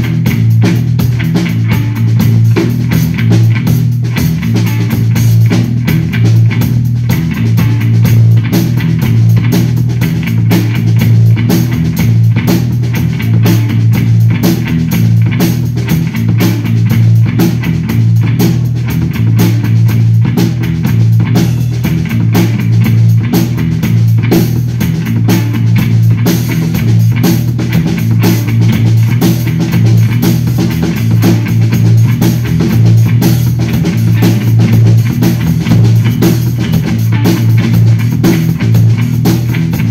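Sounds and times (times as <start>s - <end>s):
drum kit and cymbal hits: 0.0s - 39.9s
electric bass guitar with effects: 0.0s - 39.9s.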